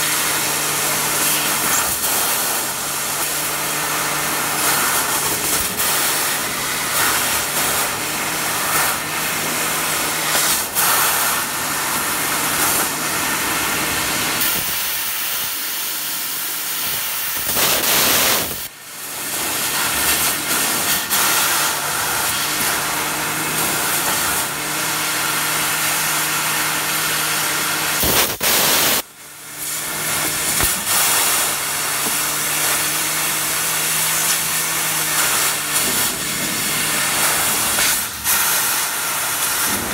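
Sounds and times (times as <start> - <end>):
laser cutter gas jet hissing: 0.0 - 18.7, 19.6 - 39.9.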